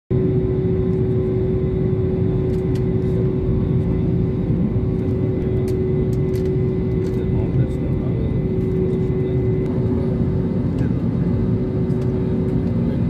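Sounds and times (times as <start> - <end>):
jet engines rumbling inside cabin: 0.1 - 13.0.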